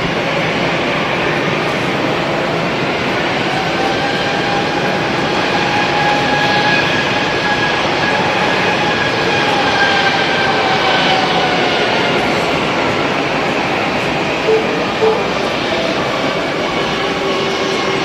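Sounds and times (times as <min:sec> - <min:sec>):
jet engines rushing and whining: 0:00.0 - 0:18.0.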